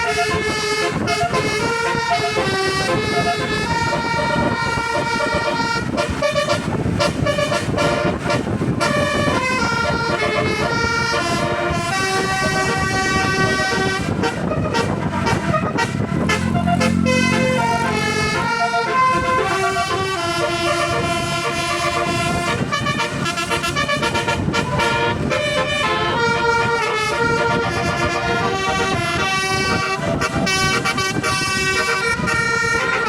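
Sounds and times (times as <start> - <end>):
low rumbling noise: 0.0 - 33.0
musical air horn melody: 0.0 - 33.0.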